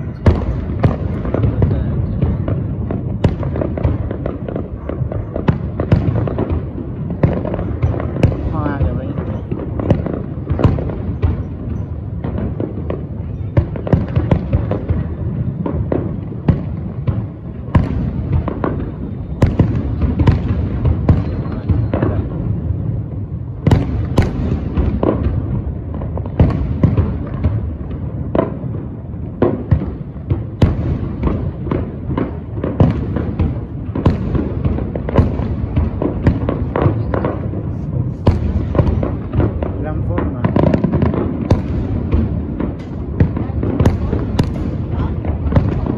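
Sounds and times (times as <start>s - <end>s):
fireworks bangs and crackles: 0.0s - 45.9s
fireworks booming: 0.0s - 45.9s.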